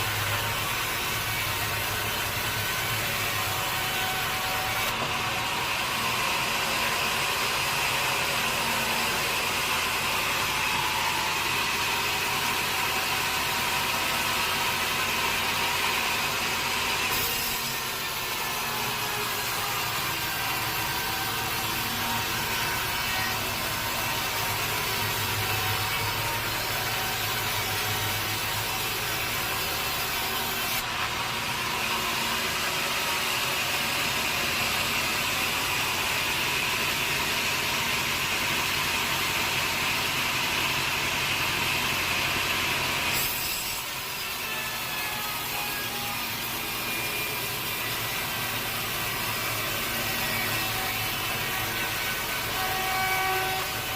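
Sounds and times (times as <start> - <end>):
saw blade cutting wood: 0.0 - 53.9
sawmill saw running: 0.0 - 53.9.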